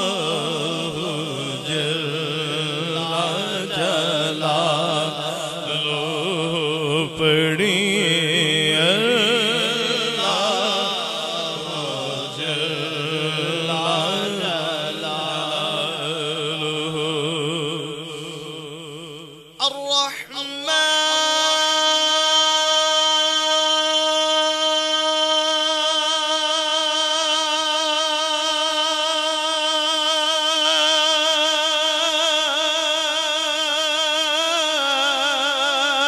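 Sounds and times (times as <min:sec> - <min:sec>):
man chanting: 0:00.0 - 0:36.0.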